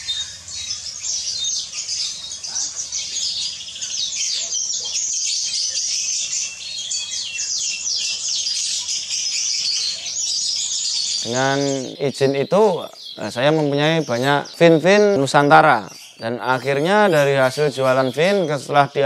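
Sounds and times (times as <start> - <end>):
finches chirping and twittering: 0.0 - 19.0.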